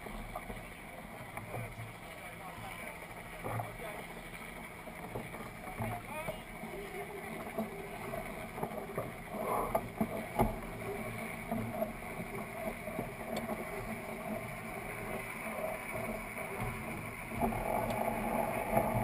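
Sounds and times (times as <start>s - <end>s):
water rushing along hull: 0.0s - 19.0s.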